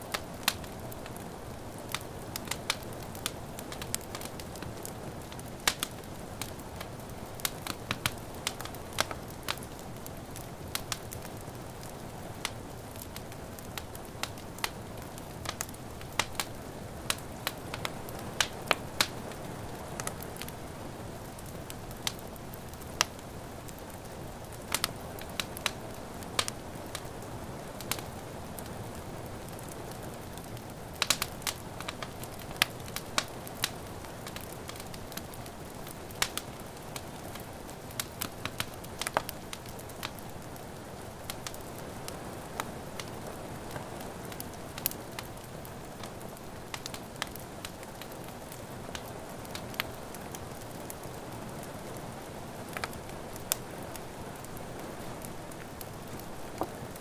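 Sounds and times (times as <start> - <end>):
soft hiss of rain: 0.0 - 57.0
wood fire crackling: 0.0 - 57.0.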